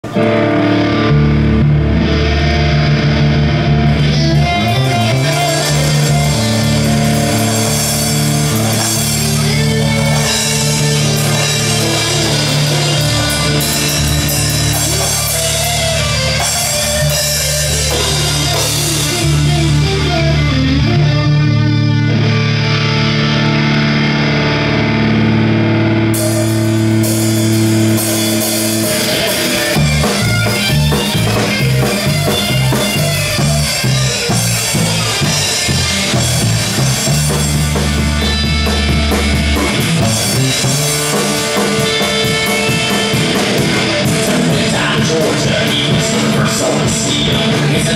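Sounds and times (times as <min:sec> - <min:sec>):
drum kit: 0:00.0 - 0:23.7, 0:26.0 - 0:47.9
bass guitar: 0:00.0 - 0:47.9
electric guitars: 0:00.0 - 0:47.9.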